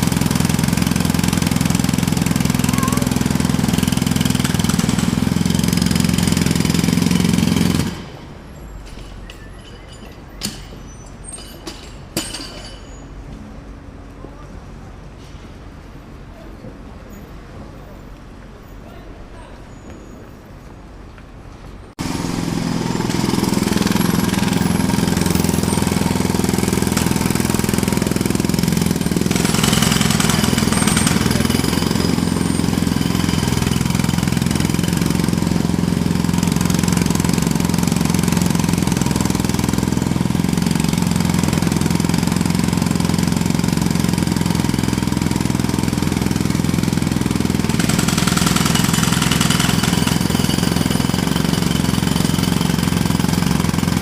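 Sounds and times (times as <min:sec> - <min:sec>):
jackhammer hammering: 0:00.0 - 0:12.9, 0:22.0 - 0:54.0.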